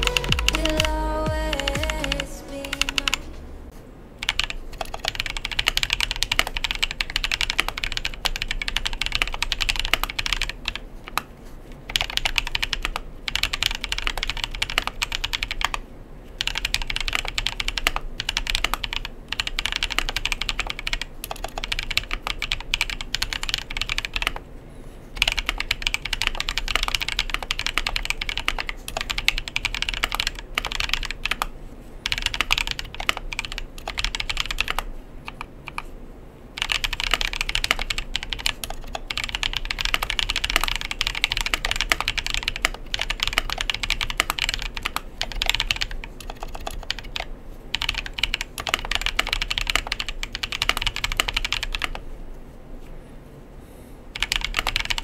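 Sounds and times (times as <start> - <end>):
mechanical keyboard typing: 0.0 - 3.3, 4.2 - 11.3, 11.9 - 15.8, 16.4 - 24.4, 25.2 - 35.9, 36.6 - 52.0, 54.1 - 55.0.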